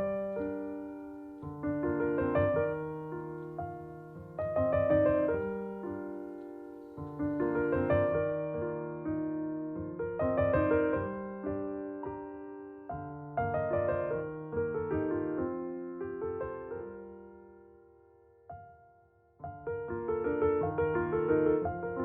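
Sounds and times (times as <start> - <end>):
gentle solo piano music: 0.0 - 22.0.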